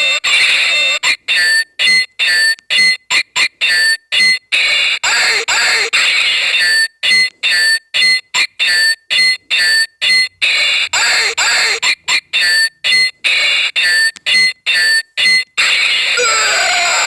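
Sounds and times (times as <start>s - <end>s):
toy electronic beeping bursts: 0.0s - 17.0s.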